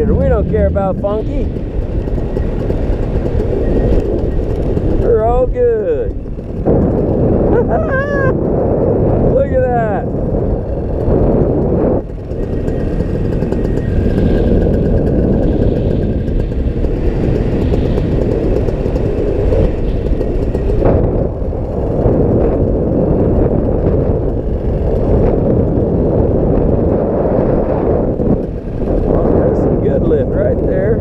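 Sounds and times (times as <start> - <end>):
airflow noise: 0.0 - 31.0
paramotor engine: 0.0 - 31.0.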